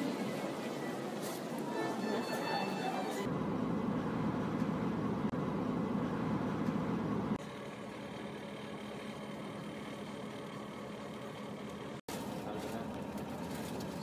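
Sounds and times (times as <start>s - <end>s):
coach engine idling hum: 0.0s - 14.0s.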